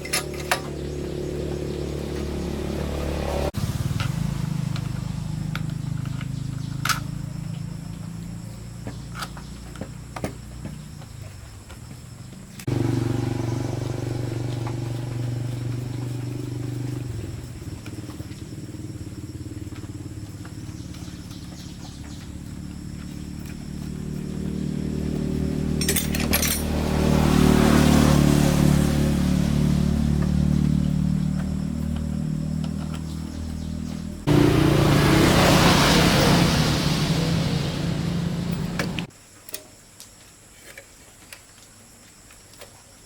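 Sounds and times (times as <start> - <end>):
generator engine running: 0.0 - 8.8, 12.7 - 39.1.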